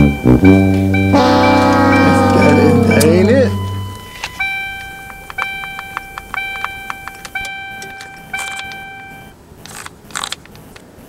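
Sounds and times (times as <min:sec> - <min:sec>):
dashboard warning chime: 0:00.0 - 0:09.4.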